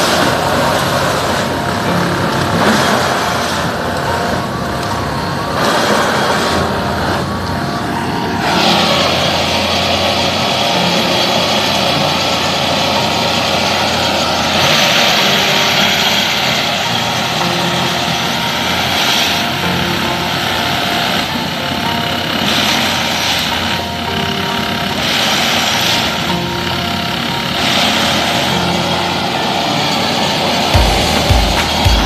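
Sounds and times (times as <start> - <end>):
hissing hydraulic surges: 0.0 - 32.0
tamping machine diesel engine: 0.0 - 32.0.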